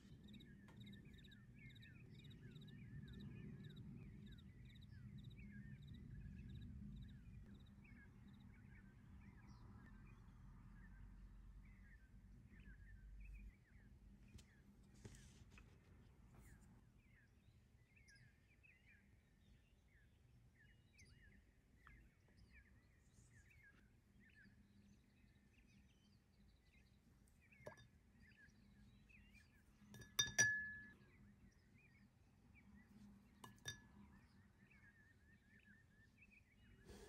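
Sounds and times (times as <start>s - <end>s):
faint chirping: 0.0s - 37.0s.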